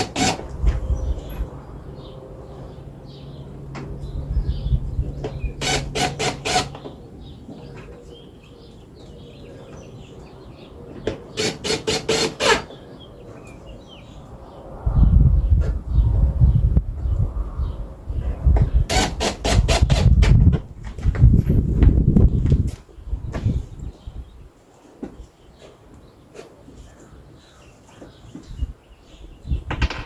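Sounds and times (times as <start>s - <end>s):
faint birdsong: 0.0s - 20.1s, 22.2s - 30.0s.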